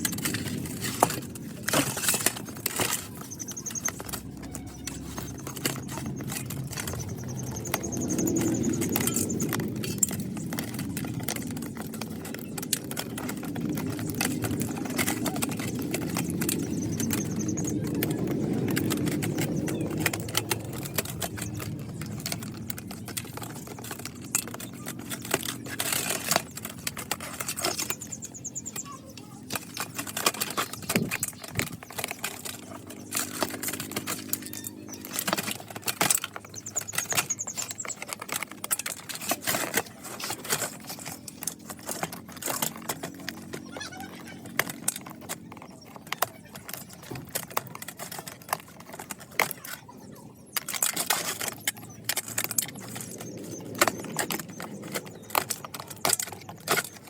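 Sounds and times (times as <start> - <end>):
keyboard keycaps clicking and rattling: 0.0 - 57.0.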